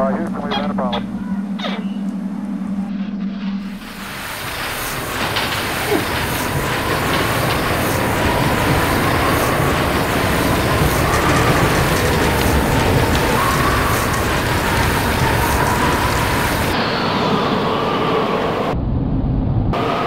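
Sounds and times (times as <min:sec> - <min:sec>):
wavering whine: 0:00.0 - 0:20.0
rushing roar: 0:00.2 - 0:18.8.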